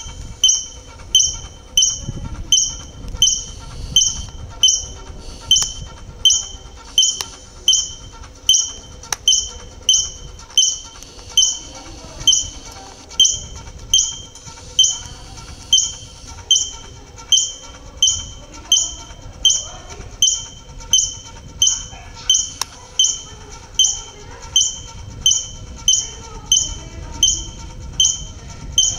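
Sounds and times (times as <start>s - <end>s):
squirrel chirping alarm call: 0.0s - 28.9s.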